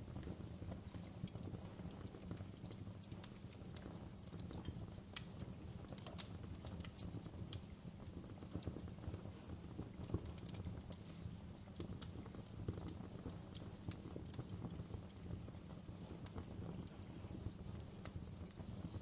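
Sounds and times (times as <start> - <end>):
low rumble of flame: 0.0 - 19.0
wood fire crackling and popping: 0.0 - 19.0.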